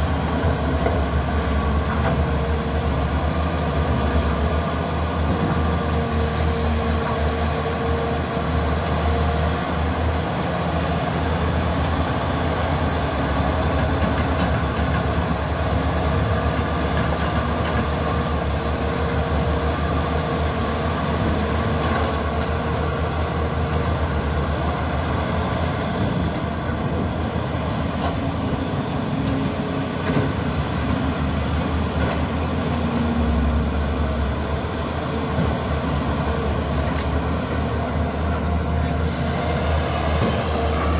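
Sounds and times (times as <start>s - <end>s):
excavator diesel engines: 0.0s - 40.9s.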